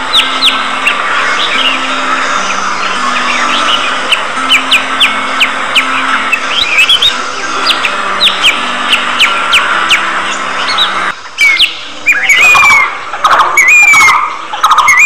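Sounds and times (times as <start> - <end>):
budgerigars chirping: 0.0 - 15.0
raspy bird calls: 0.0 - 15.0.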